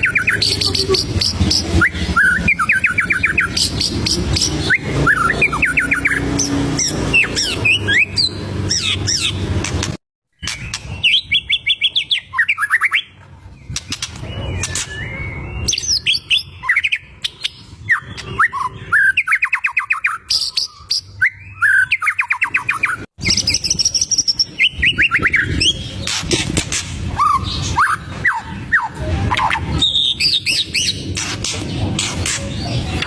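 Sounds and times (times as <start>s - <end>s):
sharp bird whistles: 0.0s - 9.4s, 10.4s - 32.8s
bird singing rattling phrases: 0.0s - 33.0s.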